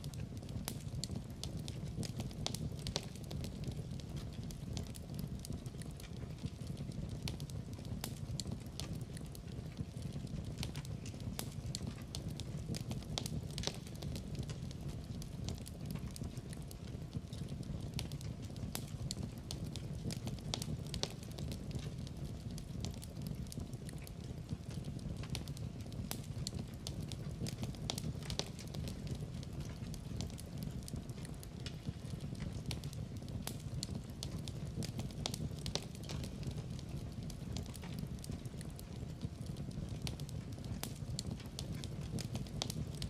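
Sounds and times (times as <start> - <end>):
fire rumbling: 0.0 - 43.0
wood fire crackling and popping: 0.0 - 43.0.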